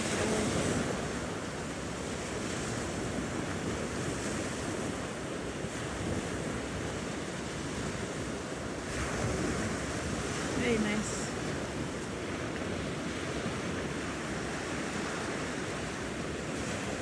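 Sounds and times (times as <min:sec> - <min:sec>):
ocean surf washing onto beach: 0:00.0 - 0:17.0
wind buffeting microphone: 0:00.0 - 0:17.0.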